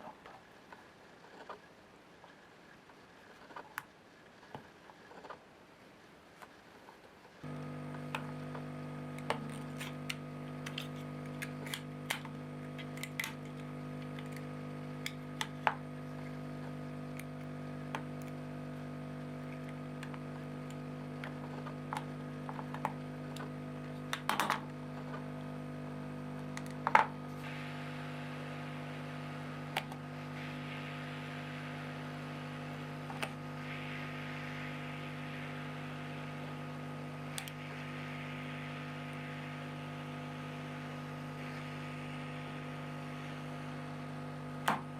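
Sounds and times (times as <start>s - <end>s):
electrical hum: 7.4s - 44.9s.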